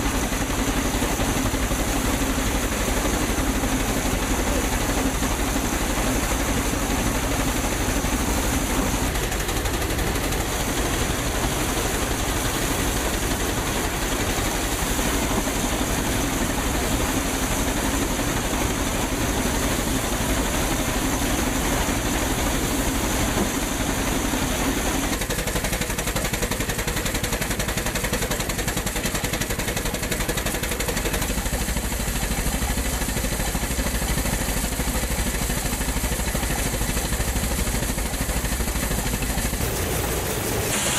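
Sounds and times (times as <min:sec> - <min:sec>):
different machine running: 0:00.0 - 0:40.9
threshing machine clatter and hum: 0:00.0 - 0:40.9.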